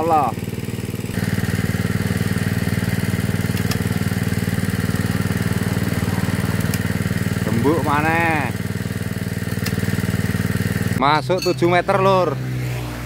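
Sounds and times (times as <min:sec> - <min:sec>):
small petrol engine running: 0:00.0 - 0:13.0.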